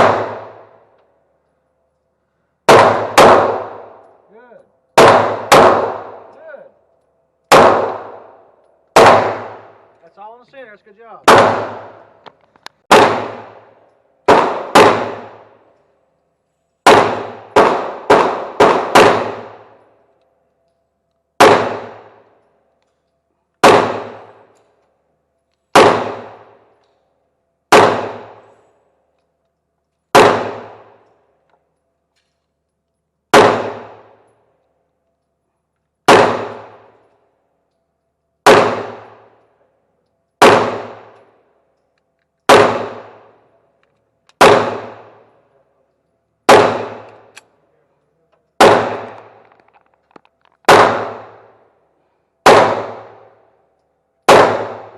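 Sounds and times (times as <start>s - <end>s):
pistol shots echoing: 0.0s - 2.0s, 2.6s - 10.0s, 11.1s - 12.2s, 12.8s - 16.2s, 16.8s - 22.8s, 23.5s - 39.8s, 40.4s - 47.6s, 48.4s - 49.7s, 50.6s - 54.9s.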